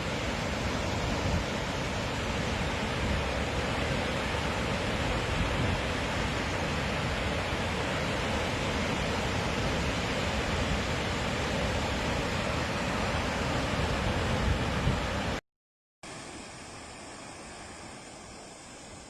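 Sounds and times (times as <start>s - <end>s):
heavy rain or running water: 0.0s - 15.4s.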